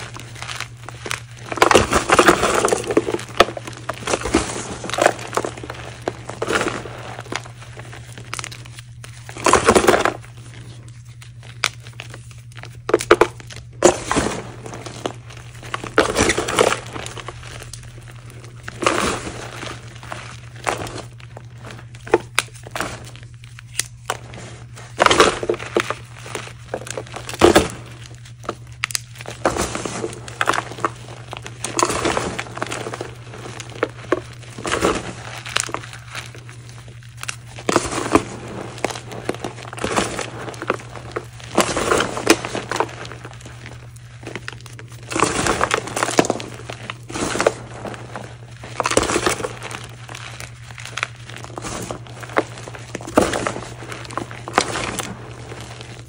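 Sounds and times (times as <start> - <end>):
dry chunks crunching and crumbling: 0.0 - 56.0.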